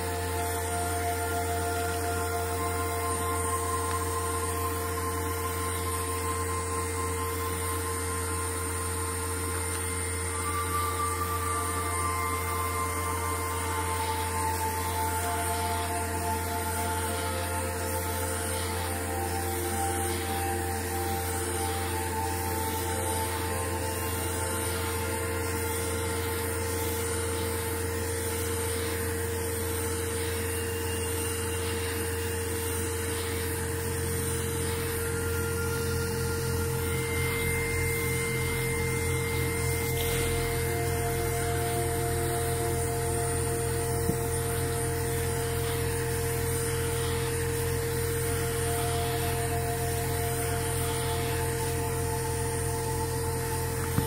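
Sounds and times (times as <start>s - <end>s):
constant whining tones: 0.0s - 54.0s
electrical machine hum: 0.0s - 54.0s.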